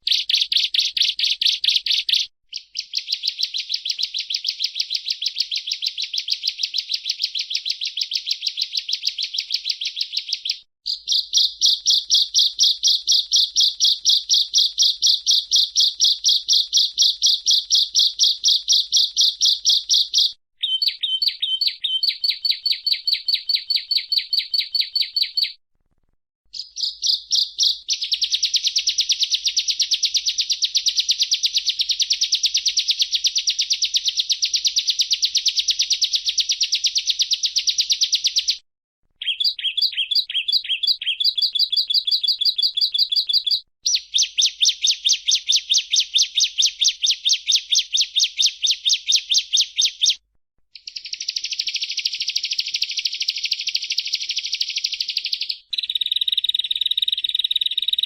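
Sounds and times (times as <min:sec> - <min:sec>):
bird singing high chirps: 0:00.0 - 0:25.6, 0:26.5 - 0:38.6, 0:39.2 - 0:50.2, 0:50.8 - 0:58.0.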